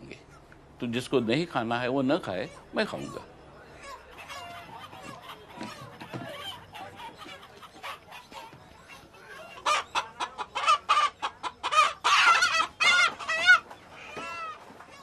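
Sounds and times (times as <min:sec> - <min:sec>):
chicken squawking: 0:02.3 - 0:15.0.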